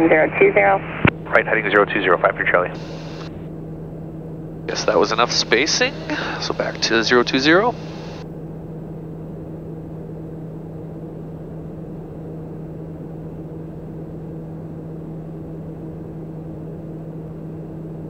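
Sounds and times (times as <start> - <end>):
turboprop engine droning in cabin: 0.0 - 18.0.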